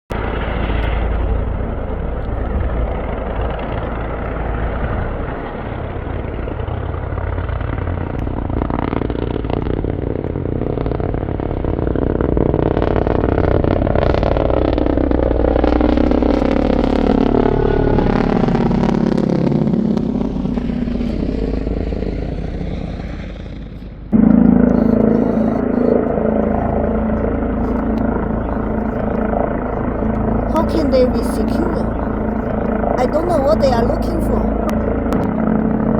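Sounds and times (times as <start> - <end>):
helicopter rotor chop: 0.2 - 35.9.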